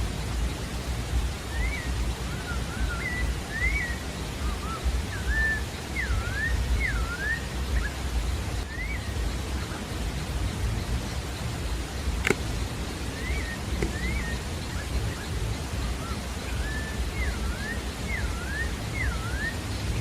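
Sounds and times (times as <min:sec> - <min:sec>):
steady hiss: 0:00.0 - 0:20.0
thrush singing whistles: 0:00.2 - 0:20.0.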